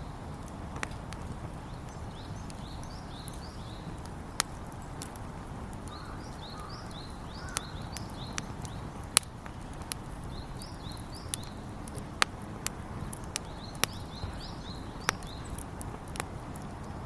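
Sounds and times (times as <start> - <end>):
campfire crackling: 0.0 - 17.0
sharp fire pops: 0.0 - 17.0
small birds chirping: 0.0 - 17.0.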